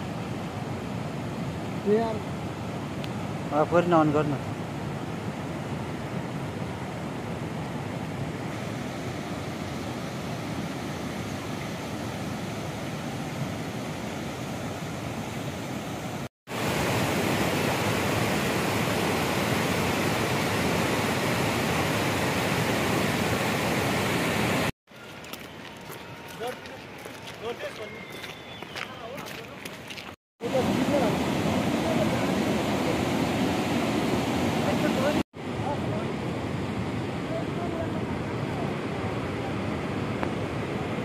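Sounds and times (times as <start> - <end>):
mountain river rushing: 0.0 - 41.0.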